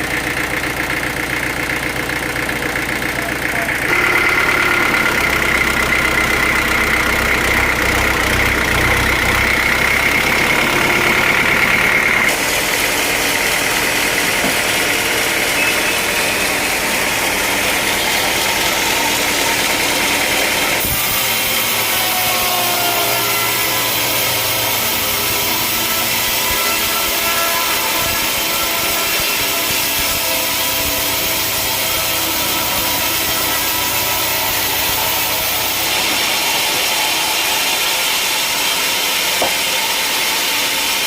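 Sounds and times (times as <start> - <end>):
sawmill machinery whining: 0.0 - 41.0.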